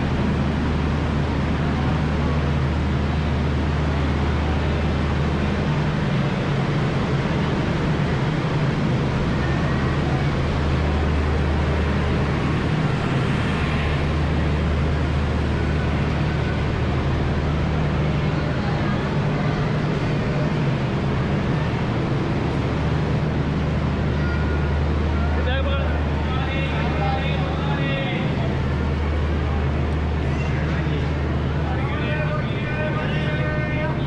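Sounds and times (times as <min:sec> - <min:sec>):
large engine running: 0:00.0 - 0:34.0.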